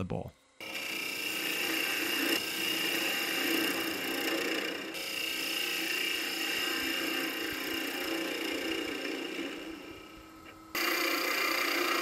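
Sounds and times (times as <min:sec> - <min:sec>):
gouge shaving wood: 0:00.6 - 0:09.7, 0:10.8 - 0:12.0
lathe motor hum: 0:00.6 - 0:12.0.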